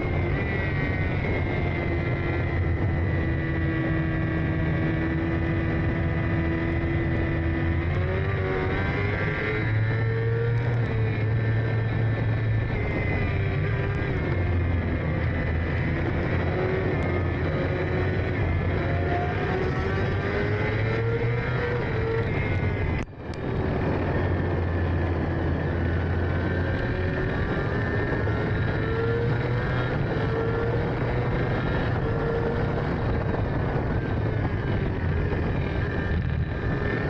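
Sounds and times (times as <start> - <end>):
racing engine running hard: 0.0 - 37.0.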